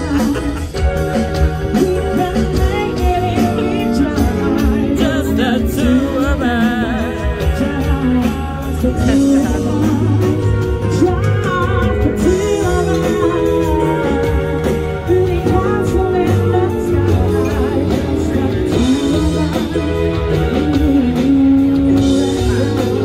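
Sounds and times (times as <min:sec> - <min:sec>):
live band playing: 0:00.0 - 0:23.0
woman singing: 0:00.0 - 0:23.0.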